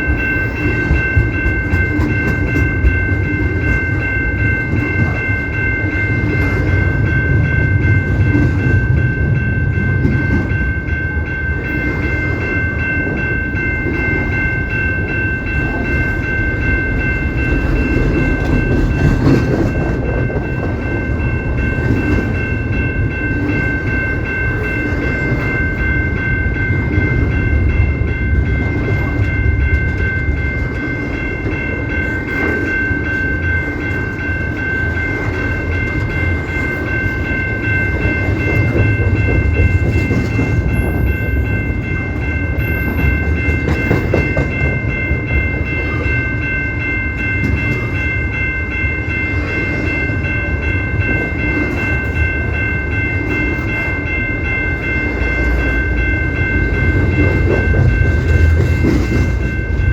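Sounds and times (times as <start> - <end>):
high-pitched ringing tones: 0.0 - 59.9
train wheels rumbling on track: 0.0 - 59.9.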